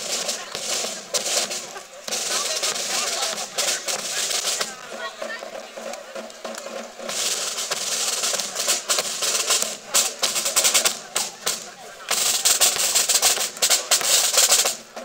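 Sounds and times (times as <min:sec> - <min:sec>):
snare drums rattling cadence: 0:00.0 - 0:15.0.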